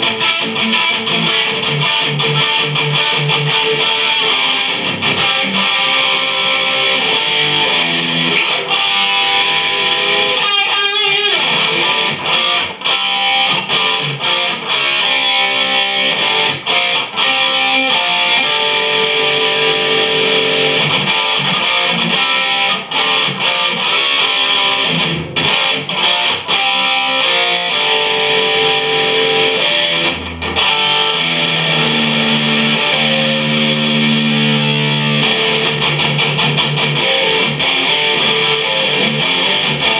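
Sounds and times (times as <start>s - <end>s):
electric guitar solo: 0.0s - 39.9s.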